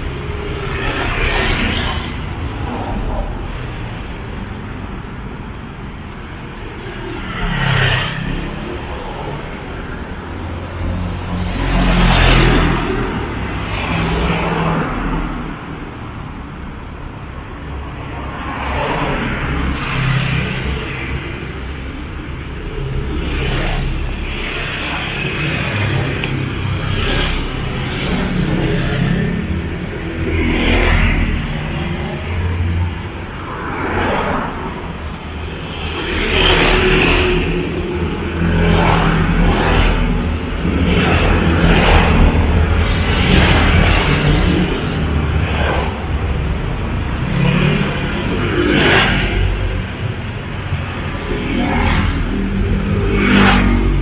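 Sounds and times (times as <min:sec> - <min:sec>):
motor vehicles passing: 0:00.0 - 0:54.0.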